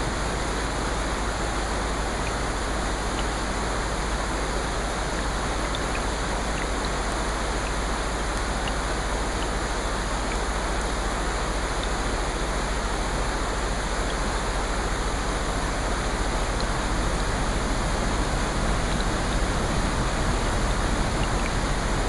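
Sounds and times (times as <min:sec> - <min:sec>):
steady rain hiss: 0:00.0 - 0:22.0
faint raindrop ticks: 0:00.1 - 0:22.0.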